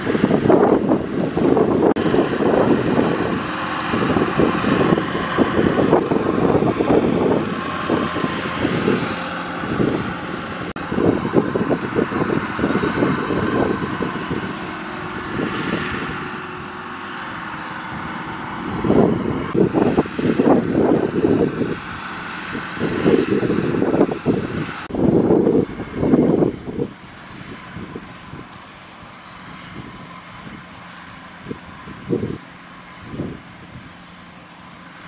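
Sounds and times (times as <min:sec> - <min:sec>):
combine harvester running: 0:00.0 - 0:35.0
wind buffeting microphone: 0:00.0 - 0:35.0.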